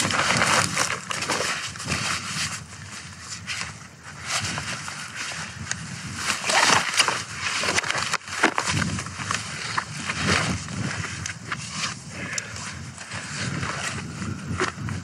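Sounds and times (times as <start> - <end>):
backpack fabric and straps rustling: 0.0 - 15.0.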